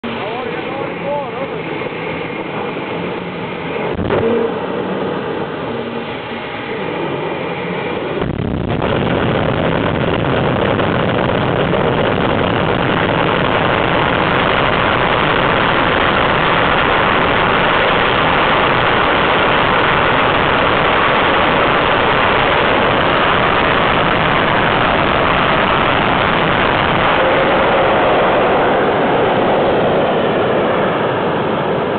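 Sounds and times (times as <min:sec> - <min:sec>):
jet engine running up: 0:00.0 - 0:31.9.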